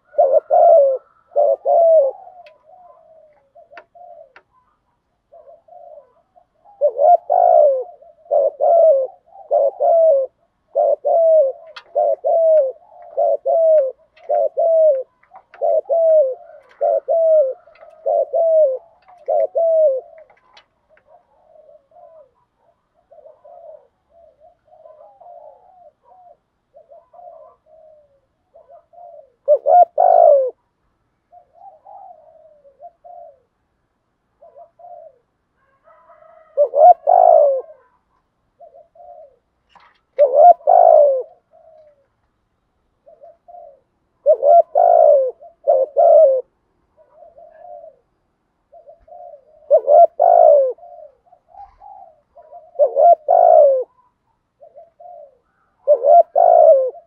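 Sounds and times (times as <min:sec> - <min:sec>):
faint short dove coos: 0:00.0 - 0:30.6, 0:31.3 - 0:33.6, 0:34.4 - 0:42.2, 0:43.0 - 0:48.1, 0:48.7 - 0:57.0
dove cooing: 0:00.0 - 0:57.0.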